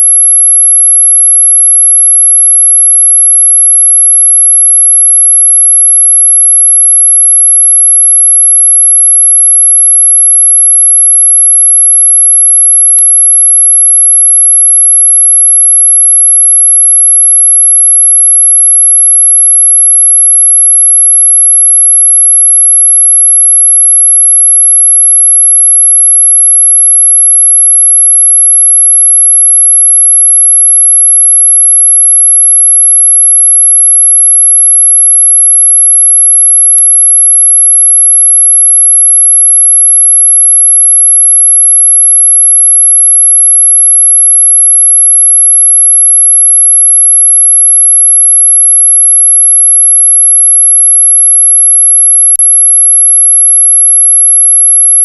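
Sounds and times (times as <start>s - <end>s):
high-pitched electronic sine tone: 0.0s - 55.0s.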